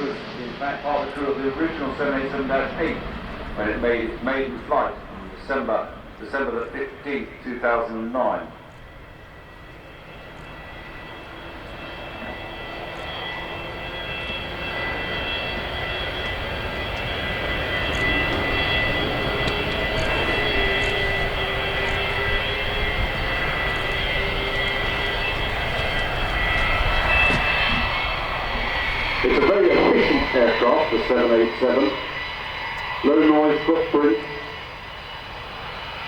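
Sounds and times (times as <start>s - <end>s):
jet airliner passing low: 0.0s - 36.0s.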